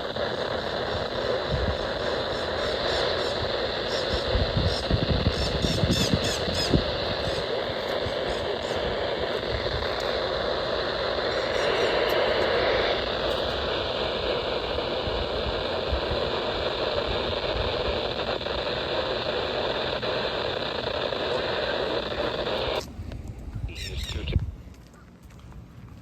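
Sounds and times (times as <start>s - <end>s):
radio static hiss: 0.0s - 23.0s, 23.6s - 24.5s.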